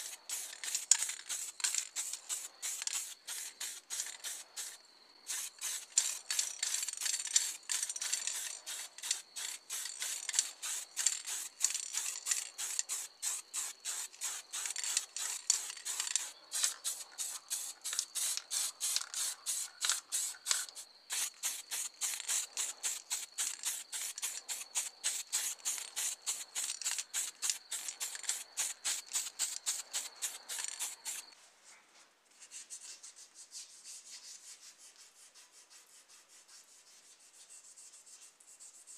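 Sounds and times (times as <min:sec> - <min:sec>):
spray paint hissing bursts: 0:00.0 - 0:31.3.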